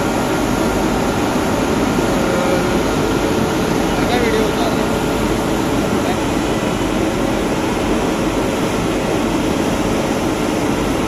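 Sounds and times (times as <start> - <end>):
locomotive cooling blowers rushing: 0.0 - 11.0.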